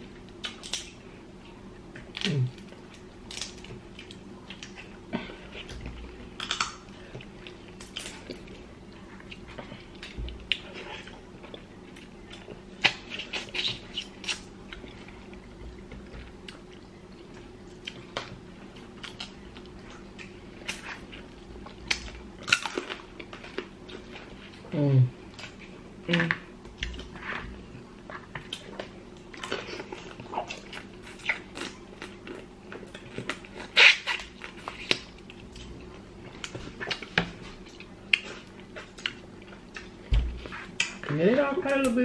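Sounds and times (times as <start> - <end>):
chewing: 0.0 - 41.2
faint steady hum: 0.0 - 42.0.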